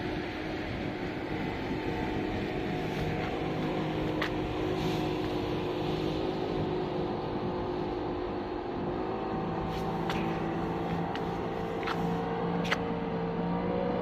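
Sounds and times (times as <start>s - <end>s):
ship engines droning: 0.0s - 14.0s
water wash: 0.0s - 14.0s.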